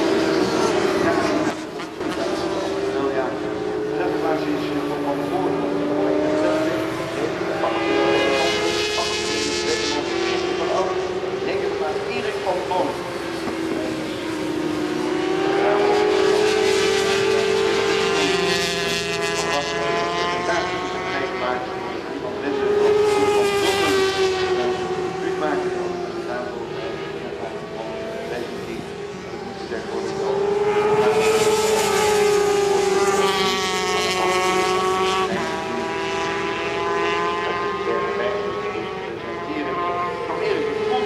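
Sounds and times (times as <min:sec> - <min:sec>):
racing motorcycles at high revs: 0:00.0 - 0:41.0.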